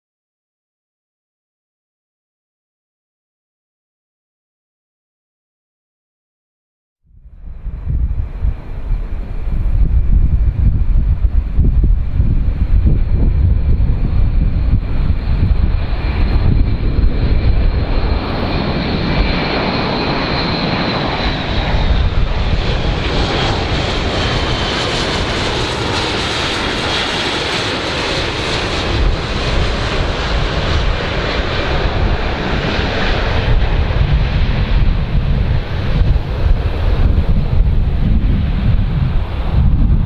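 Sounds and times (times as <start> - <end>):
airplane engines roaring and whining: 7.1 - 40.0
wind rumble on microphone: 7.1 - 40.0.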